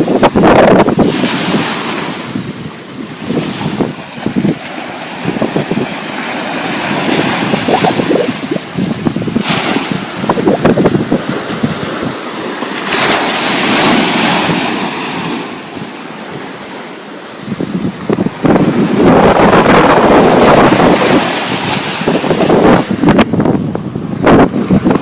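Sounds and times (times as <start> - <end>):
wind buffeting microphone: 0.0 - 16.7, 17.3 - 25.0
ocean waves breaking: 0.0 - 25.0.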